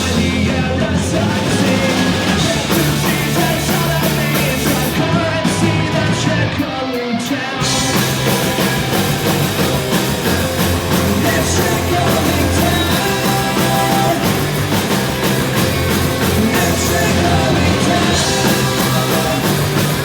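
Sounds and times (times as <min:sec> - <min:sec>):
person singing: 0:00.0 - 0:20.0
punk rock band playing: 0:00.0 - 0:20.0.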